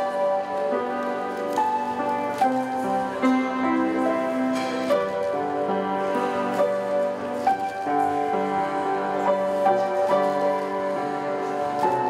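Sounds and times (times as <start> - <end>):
soft instrumental background music: 0.0 - 12.0.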